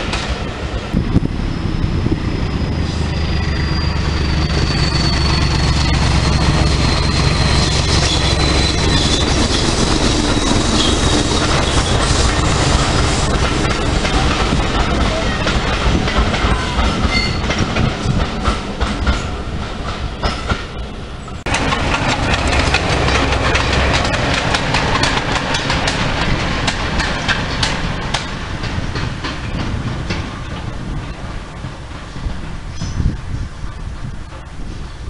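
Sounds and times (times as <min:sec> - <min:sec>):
train wheels clicking over rail joints: 0:00.0 - 0:00.9, 0:04.4 - 0:35.0.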